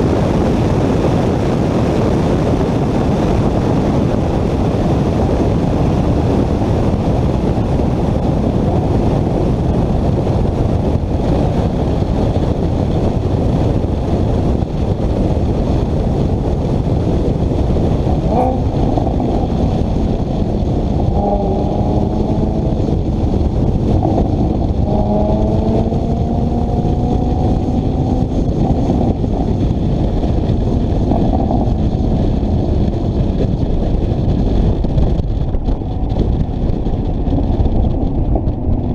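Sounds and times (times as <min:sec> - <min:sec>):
car driving at speed: 0:00.0 - 0:38.9.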